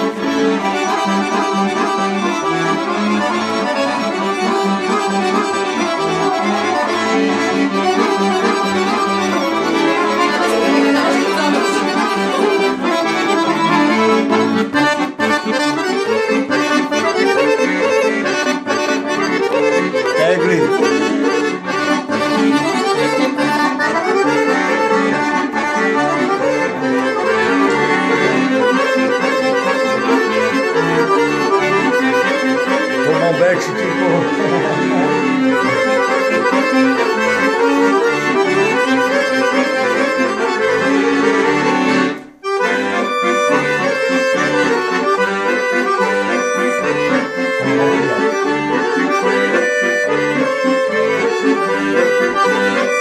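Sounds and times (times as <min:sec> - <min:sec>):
button accordions playing a duet: 0:00.0 - 0:53.0.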